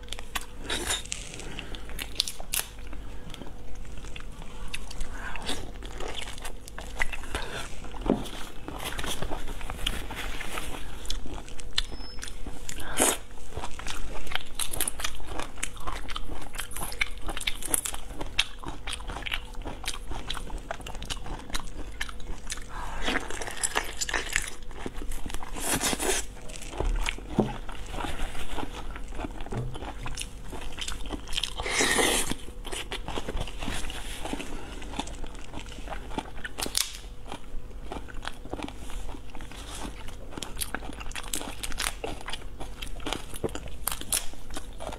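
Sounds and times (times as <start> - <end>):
crunching and chewing seafood: 0.0 - 44.9.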